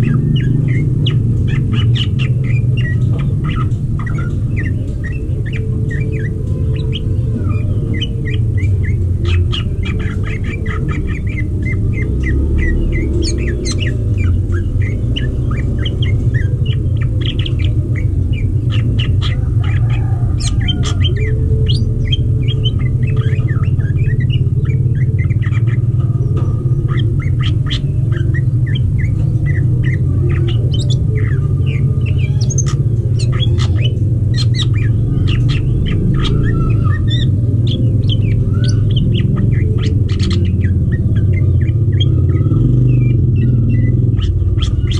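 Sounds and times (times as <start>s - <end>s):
bird squawks: 0.0s - 44.9s
birds chirping: 0.0s - 44.9s.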